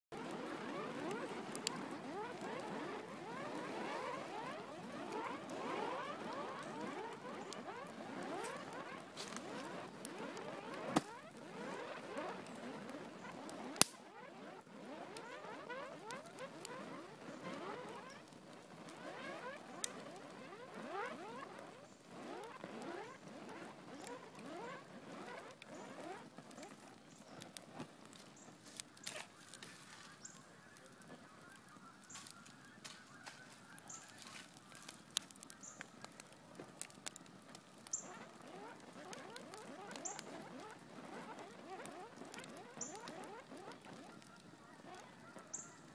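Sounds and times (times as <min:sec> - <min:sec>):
burning plastic squeaky whistles: 0:00.1 - 0:45.9
sharp crackle: 0:00.1 - 0:45.9.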